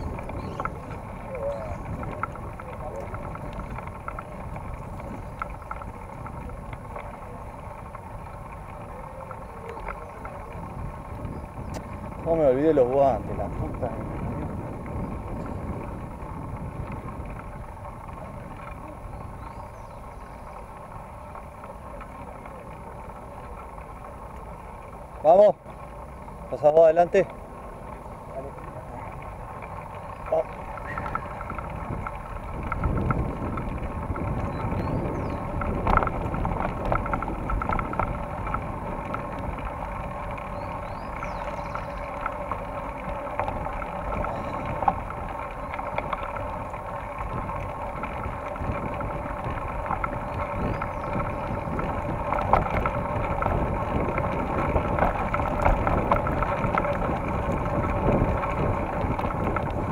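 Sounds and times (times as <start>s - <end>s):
mountain bike rumbling over dirt: 0.0s - 59.9s
wind buffeting microphone: 0.0s - 59.9s.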